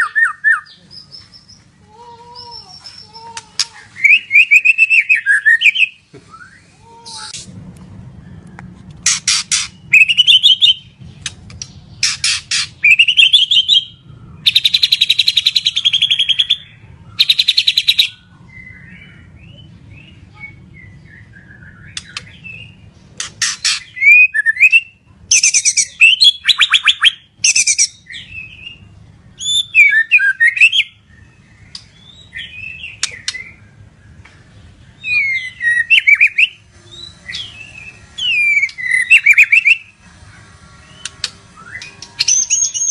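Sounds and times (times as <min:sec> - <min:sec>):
songbird singing trills and whistles: 0:00.0 - 0:01.7, 0:02.4 - 0:07.4, 0:08.2 - 0:34.3, 0:34.9 - 0:40.0, 0:40.8 - 0:42.9.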